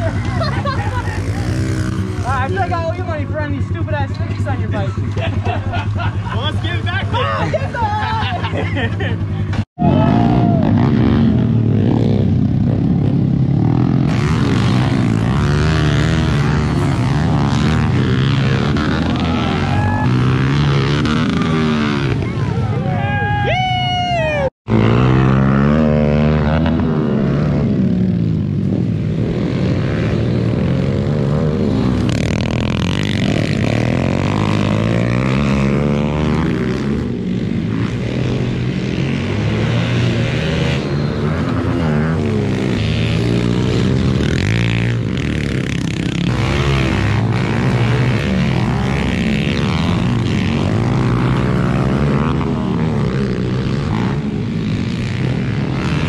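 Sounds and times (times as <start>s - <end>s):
motorbike engine revving: 0.0s - 23.4s, 24.1s - 56.0s.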